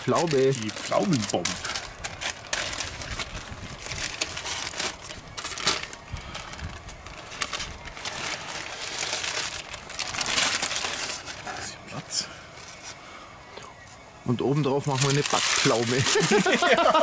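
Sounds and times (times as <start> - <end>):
irregular crackles: 0.0 - 11.8, 14.8 - 17.0
parchment paper crinkling: 0.0 - 11.8, 14.6 - 17.0.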